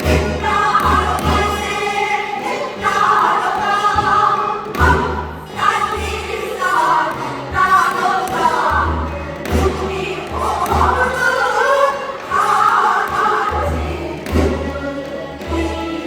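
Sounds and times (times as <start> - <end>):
person singing folk song: 0.0 - 16.0.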